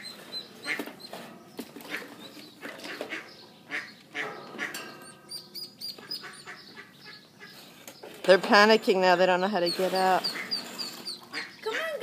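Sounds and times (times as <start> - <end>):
ducklings peeping in distress: 0.0 - 8.1, 8.7 - 12.0.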